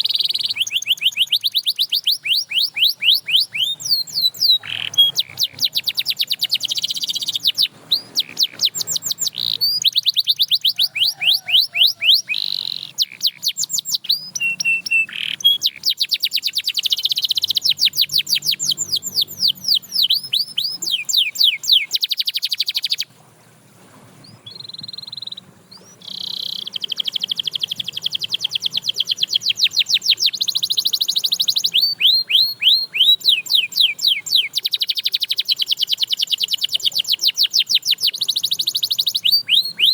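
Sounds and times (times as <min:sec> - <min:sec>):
canary singing trills: 0:00.0 - 0:23.1, 0:24.2 - 0:39.9.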